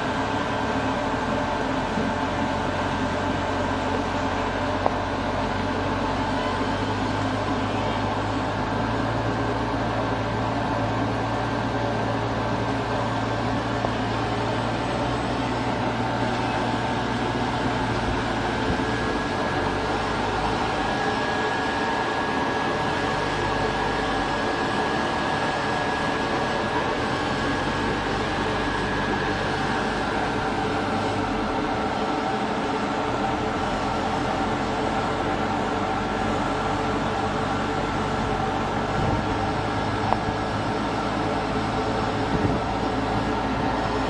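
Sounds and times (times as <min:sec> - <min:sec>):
machinery with high whine: 0:00.0 - 0:44.0.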